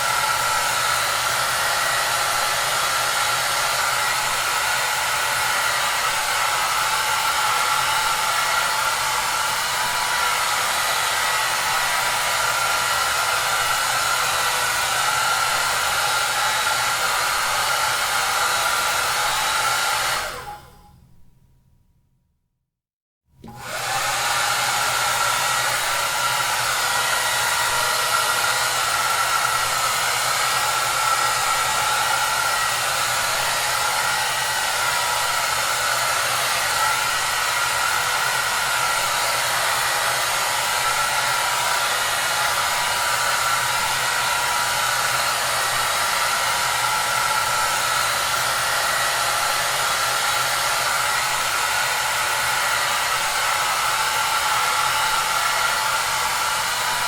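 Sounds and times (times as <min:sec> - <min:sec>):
hair dryer whooshing: 0:00.0 - 0:20.9, 0:23.4 - 0:57.0.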